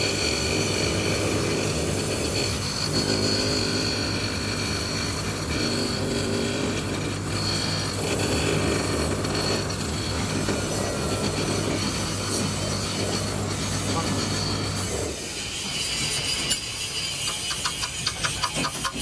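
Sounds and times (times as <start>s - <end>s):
high whine of cutting tool: 0.0s - 19.0s
metal lathe hum: 0.0s - 19.0s.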